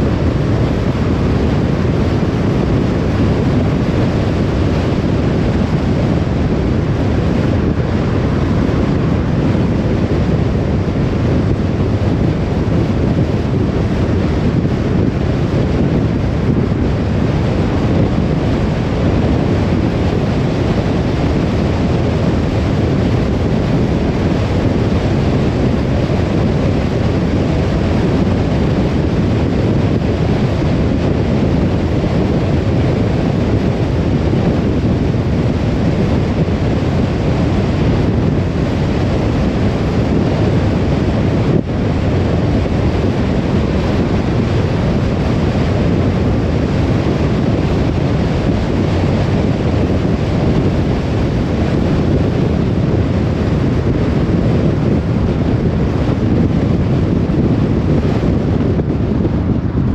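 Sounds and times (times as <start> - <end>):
car driving on road: 0.0 - 59.9.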